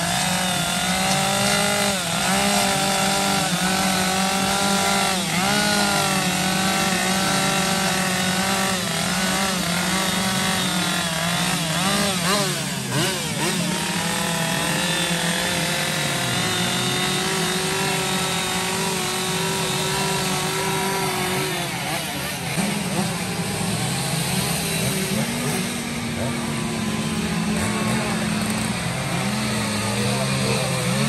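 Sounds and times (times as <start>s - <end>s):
chainsaw carving wood: 0.0s - 31.0s.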